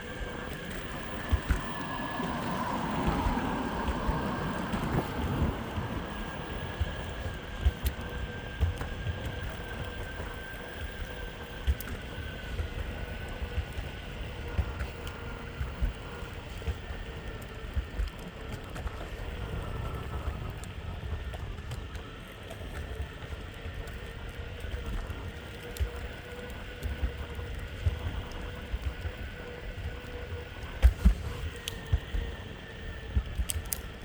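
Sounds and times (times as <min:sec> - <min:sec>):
electric motor whine: 0:00.0 - 0:34.0
wheels rumbling on pavement: 0:00.0 - 0:34.0.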